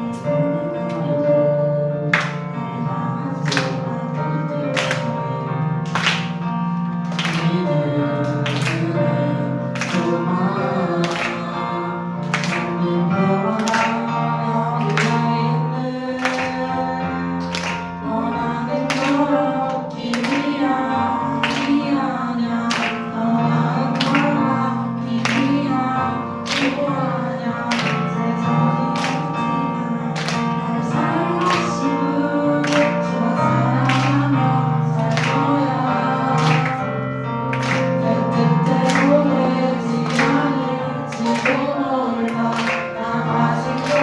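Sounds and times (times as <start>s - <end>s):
band playing worship song: 0.0s - 44.0s
person singing: 0.0s - 44.0s.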